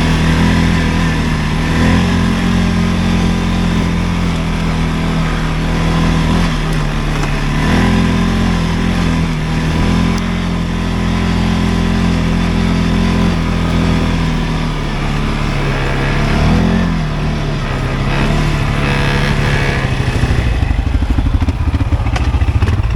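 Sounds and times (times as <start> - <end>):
atv engine running: 0.0 - 22.9.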